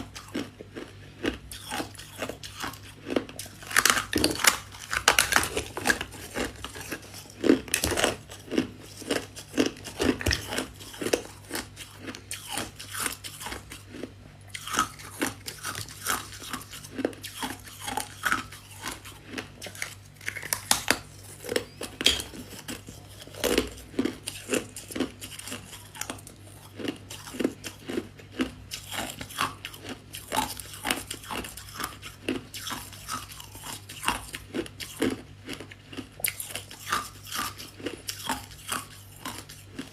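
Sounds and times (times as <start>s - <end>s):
crunchy frost chewing: 0.0s - 39.9s.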